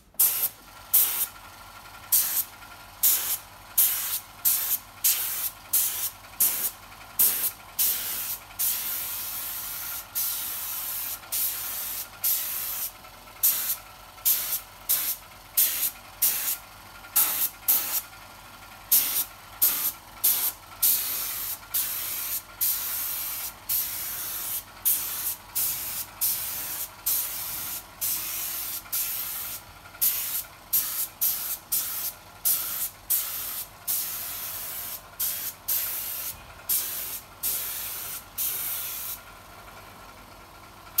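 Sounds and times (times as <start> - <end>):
spray gun hissing: 0.2 - 1.3, 2.1 - 16.6, 17.2 - 18.0, 18.9 - 39.2.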